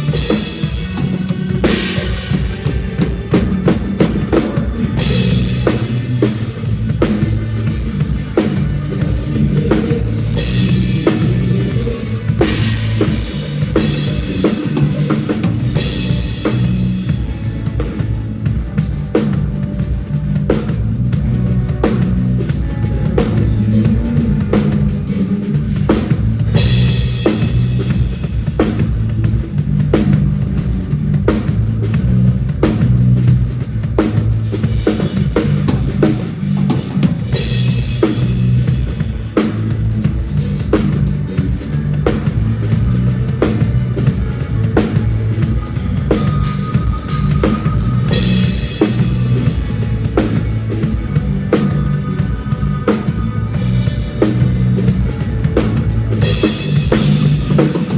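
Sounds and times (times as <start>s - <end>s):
bass guitar: 0.0s - 57.9s.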